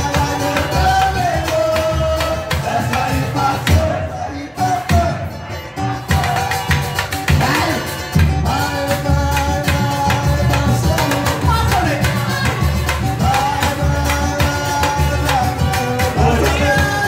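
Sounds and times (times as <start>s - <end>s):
cavaquinho strumming: 0.0s - 17.0s
pandeiro and hand drums: 0.0s - 17.0s.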